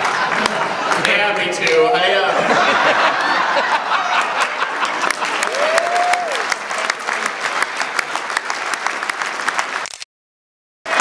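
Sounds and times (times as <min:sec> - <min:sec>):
audience applauding: 0:00.0 - 0:01.8, 0:02.8 - 0:09.9.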